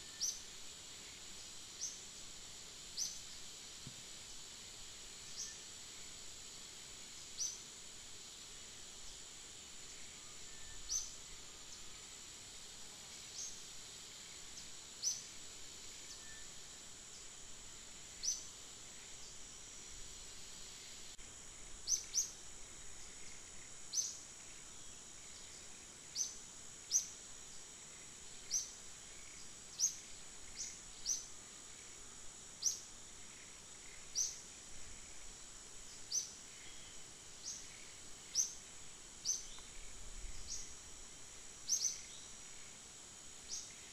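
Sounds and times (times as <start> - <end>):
high insect drone: 0.0 - 43.9.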